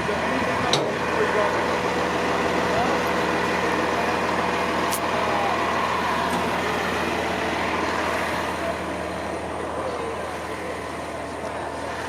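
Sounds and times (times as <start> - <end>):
truck diesel engine idling: 0.0 - 12.0.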